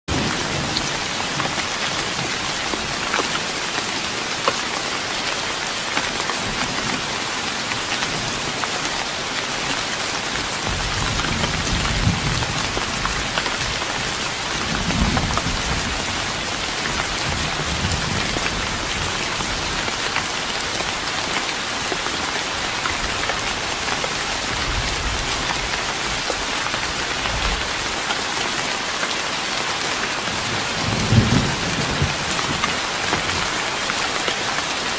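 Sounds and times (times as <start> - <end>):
rain pattering on wooden deck: 0.1 - 34.9.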